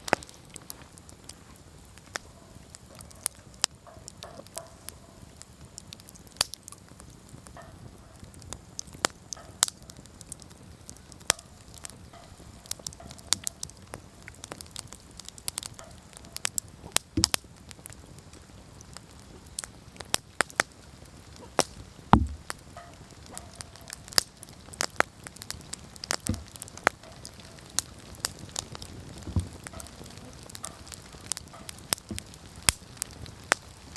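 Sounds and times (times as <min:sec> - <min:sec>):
campfire crackling and popping: 0:00.0 - 0:33.9
low steady hiss: 0:00.0 - 0:33.9.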